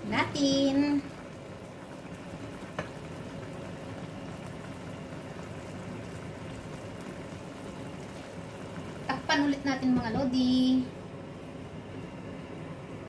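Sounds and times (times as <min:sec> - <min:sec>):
sauce bubbling in a wok: 0:00.0 - 0:13.0.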